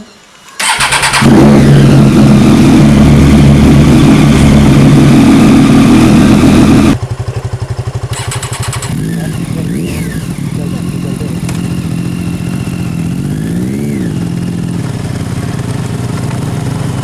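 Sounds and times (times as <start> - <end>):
motorcycle engine starting and idling: 0.6 - 17.0.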